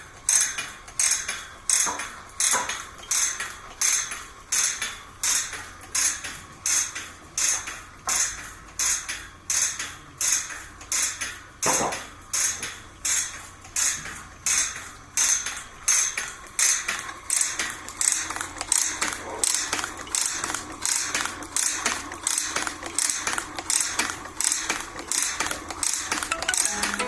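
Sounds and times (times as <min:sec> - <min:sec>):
sharp metallic clacks of machine: 0:00.0 - 0:27.0.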